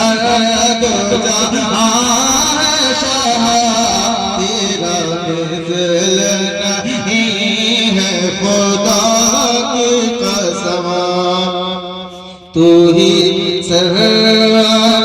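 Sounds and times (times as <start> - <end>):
man singing melismatic passage: 0.0 - 15.0.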